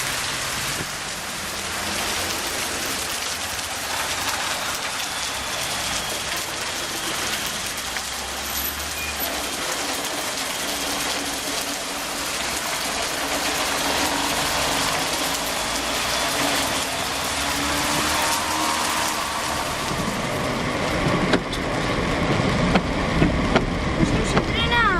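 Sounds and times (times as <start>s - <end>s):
heavy rain: 0.0s - 24.9s.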